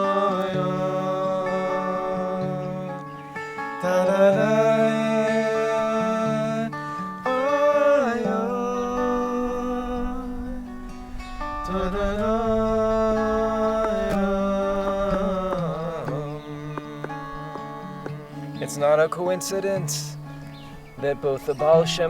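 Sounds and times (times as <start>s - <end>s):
acoustic guitar: 0.0s - 22.0s
man singing long notes: 0.0s - 22.0s.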